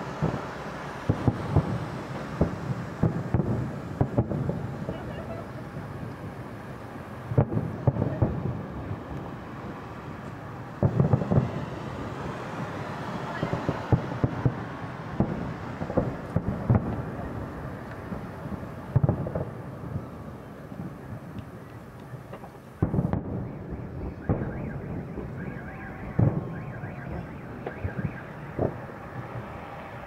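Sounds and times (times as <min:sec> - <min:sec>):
firework shells booming: 0:00.0 - 0:09.4, 0:10.7 - 0:29.6
firework crackling: 0:00.0 - 0:30.0.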